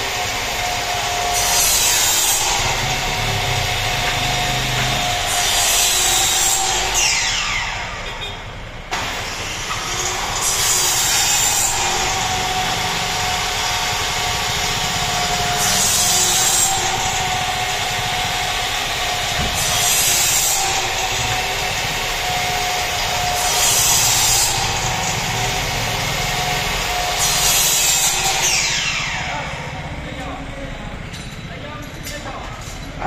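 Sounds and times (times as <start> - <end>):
electric power saw cutting aluminium: 0.0 - 8.0, 8.9 - 29.7.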